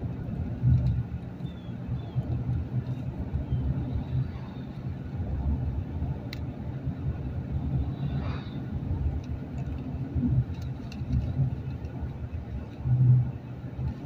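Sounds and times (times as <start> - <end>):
car driving heard from inside: 0.0 - 14.0.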